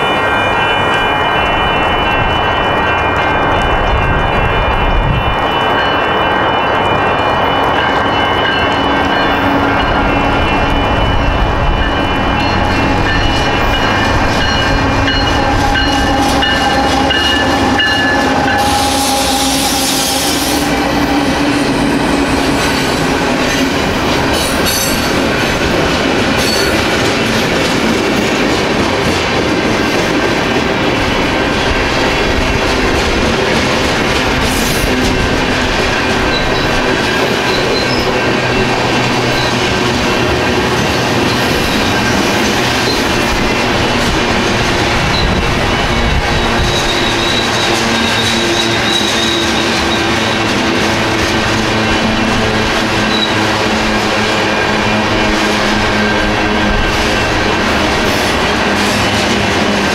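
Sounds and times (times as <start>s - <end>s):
freight train passing: 0.0s - 59.9s
wheels on rails: 0.0s - 59.9s.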